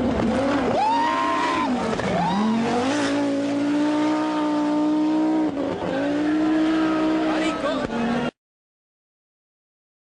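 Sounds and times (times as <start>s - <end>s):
rally car engine revving: 0.0s - 8.4s.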